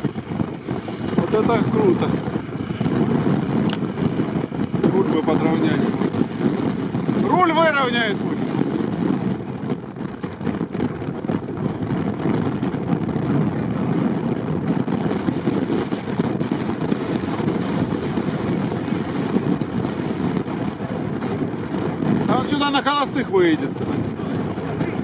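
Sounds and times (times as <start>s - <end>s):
wheels spinning in snow and sand: 0.0s - 25.0s.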